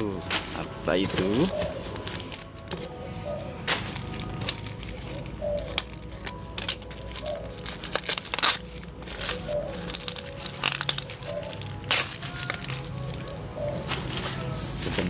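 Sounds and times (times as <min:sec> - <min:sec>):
faint background music: 0:00.0 - 0:15.0
newspaper crinkling: 0:00.2 - 0:03.0, 0:03.6 - 0:15.0.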